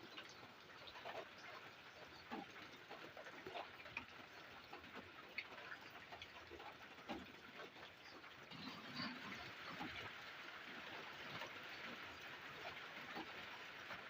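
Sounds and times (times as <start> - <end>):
light rain patter: 0.0 - 14.0.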